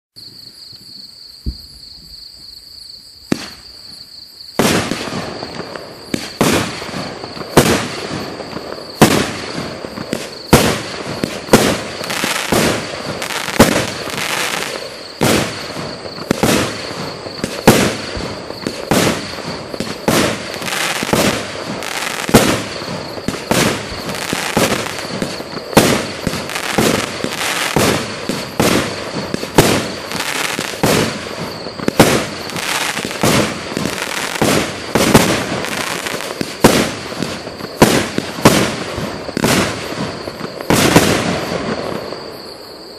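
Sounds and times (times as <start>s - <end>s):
fireworks crackling: 3.3s - 3.8s, 4.6s - 42.5s
fireworks launching and bursting: 3.3s - 3.9s, 4.6s - 42.6s.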